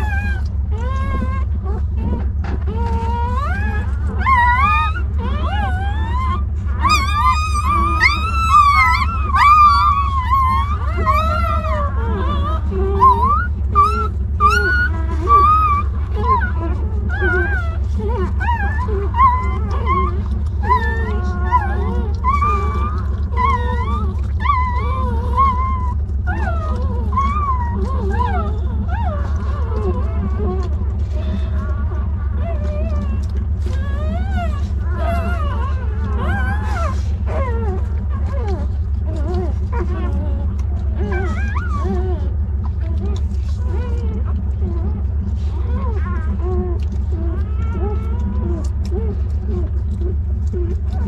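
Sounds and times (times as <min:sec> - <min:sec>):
puppies whining and crying: 0:00.0 - 0:51.0
steady low hum: 0:00.0 - 0:51.0.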